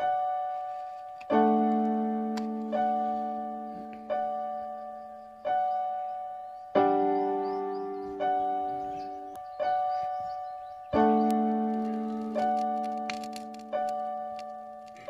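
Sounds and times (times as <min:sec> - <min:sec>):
slow solo piano: 0:00.0 - 0:15.0.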